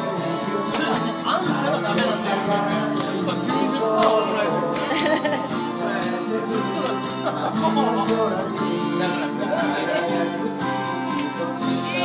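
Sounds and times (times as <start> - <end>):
karaoke music: 0.0 - 12.0
people's voices: 0.0 - 12.0.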